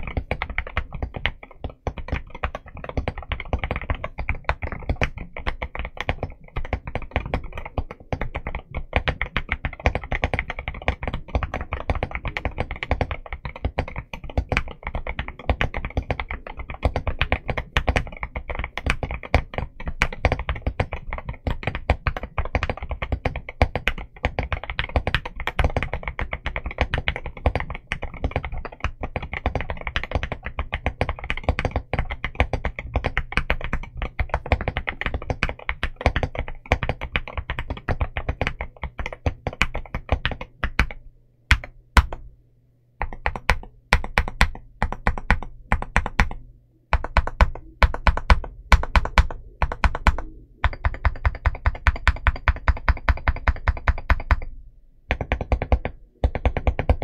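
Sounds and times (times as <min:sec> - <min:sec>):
mechanical keyboard fast typing: 0:00.0 - 0:42.2, 0:43.0 - 0:54.5, 0:55.1 - 0:57.0.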